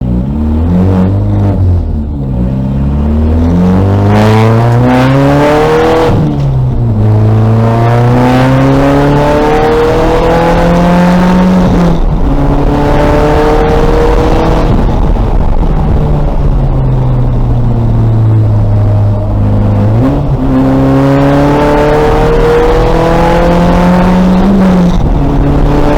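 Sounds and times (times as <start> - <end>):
race car engine accelerating: 0.0 - 25.9.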